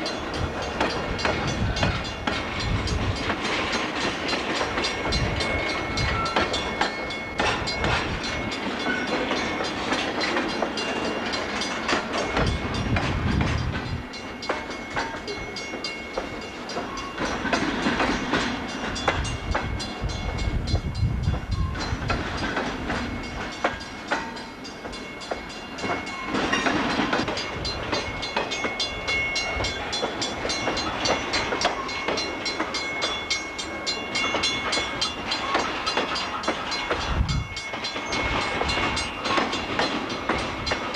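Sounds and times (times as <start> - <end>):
train wheels clattering over crossing: 0.0 - 40.9.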